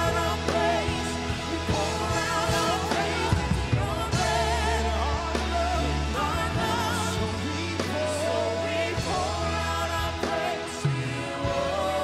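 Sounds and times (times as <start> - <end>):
bass: 0.0 - 12.0
drums: 0.0 - 12.0
vocalists singing: 0.0 - 12.0
worship band playing: 0.0 - 12.0.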